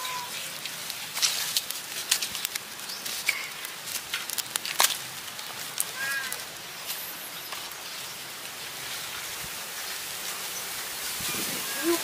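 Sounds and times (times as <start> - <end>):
fire crackling and snapping: 0.2 - 12.0.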